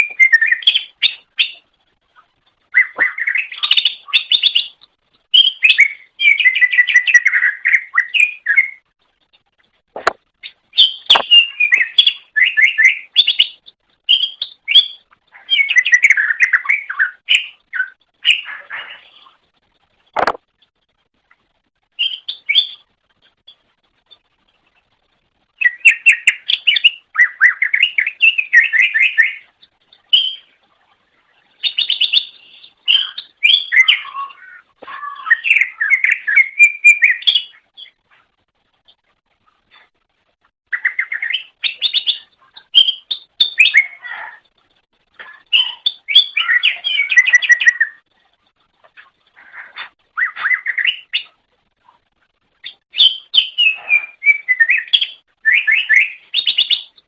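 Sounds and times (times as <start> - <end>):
bird chirping trills: 0.0 - 8.9, 10.3 - 19.6, 21.9 - 38.1, 40.7 - 57.0.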